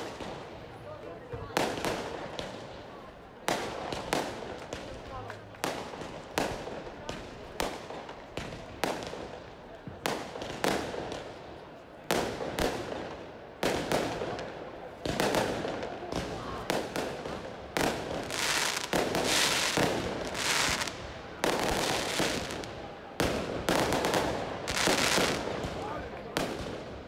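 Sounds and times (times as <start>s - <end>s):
hiss and crackle of fireworks: 0.0s - 27.0s.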